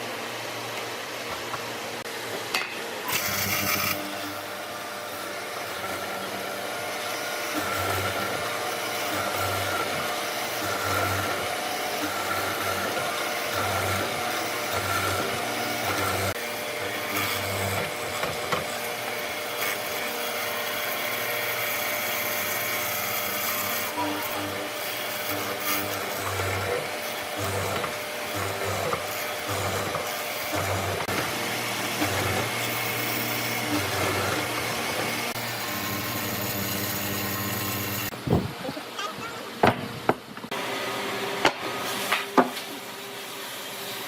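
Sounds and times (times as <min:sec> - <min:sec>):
power tool whining on wood: 0:00.0 - 0:44.0.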